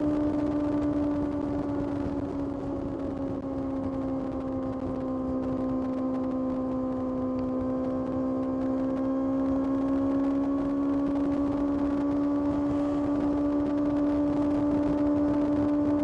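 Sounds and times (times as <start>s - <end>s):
motorcycle engine at high revs: 0.0s - 16.0s
wind and road rush: 0.0s - 16.0s.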